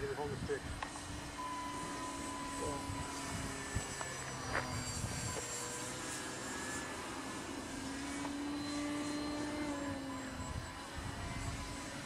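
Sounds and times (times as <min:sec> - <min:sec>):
model airplane motor drone: 0:00.0 - 0:12.0.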